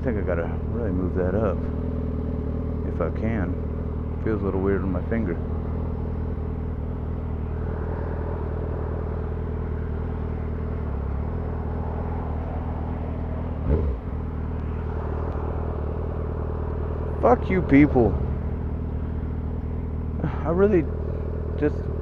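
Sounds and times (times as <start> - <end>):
motorcycle engine while riding: 0.0 - 22.0.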